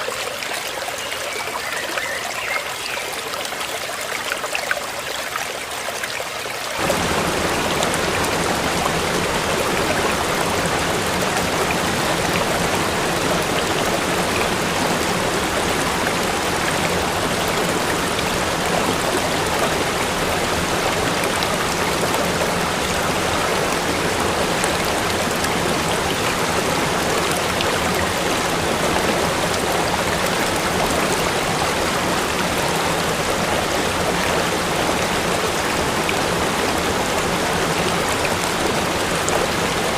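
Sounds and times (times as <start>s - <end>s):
water rushing over waterfall: 0.0s - 39.9s
water trickle: 0.0s - 39.9s.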